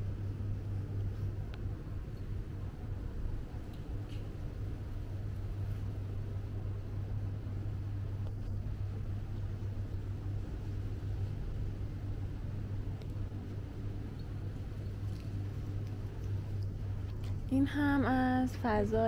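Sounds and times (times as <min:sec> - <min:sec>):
constant background rumble: 0:00.0 - 0:19.0
steady low hum: 0:00.0 - 0:19.0.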